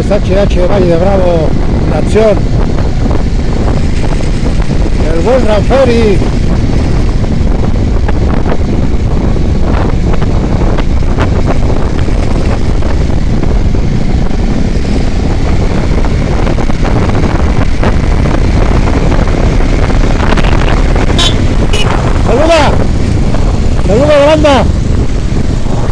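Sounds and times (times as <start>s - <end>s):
vehicle road rumble: 0.0s - 25.9s
wind buffeting microphone: 0.0s - 25.9s.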